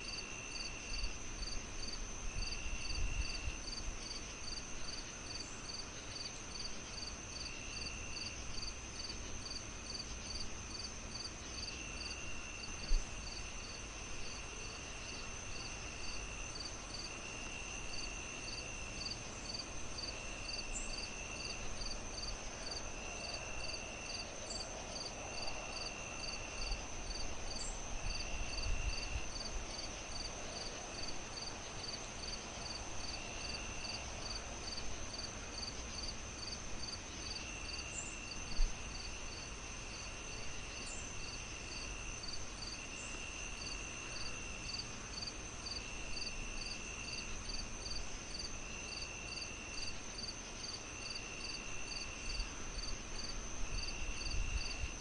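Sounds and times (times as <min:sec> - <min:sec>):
crickets chirping: 0:00.0 - 0:55.0
high insect trill: 0:00.0 - 0:55.0.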